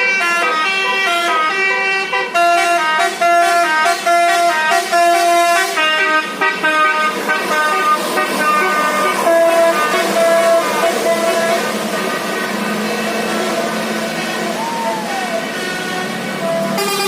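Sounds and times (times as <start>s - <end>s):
musical bus horn playing a tune: 0.0s - 17.0s.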